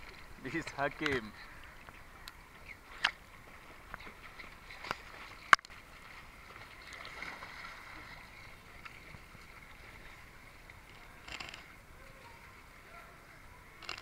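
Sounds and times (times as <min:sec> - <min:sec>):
swimmers splashing: 0:00.0 - 0:14.0
water lapping against camera: 0:00.0 - 0:14.0.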